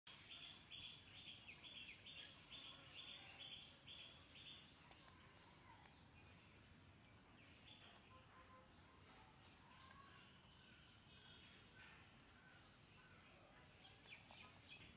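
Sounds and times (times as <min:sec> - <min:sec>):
insect chirps: 0:00.1 - 0:14.9
insect drone: 0:00.1 - 0:14.9.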